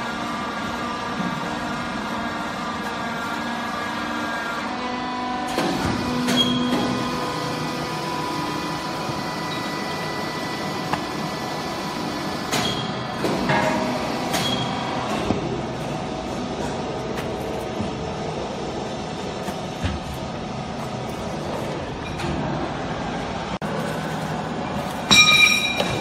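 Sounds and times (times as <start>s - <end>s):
hydraulic pump motor humming: 0.0s - 26.0s.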